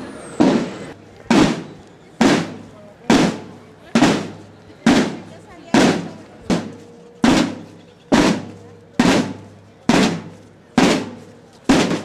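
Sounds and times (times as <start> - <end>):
marching field drums striking: 0.4 - 12.0.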